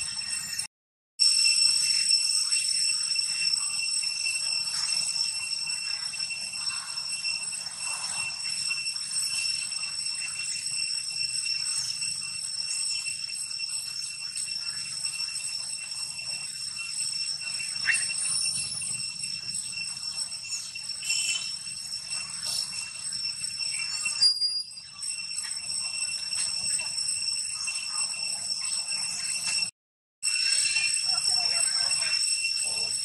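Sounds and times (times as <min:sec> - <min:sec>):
insects droning: 0:01.2 - 0:33.0.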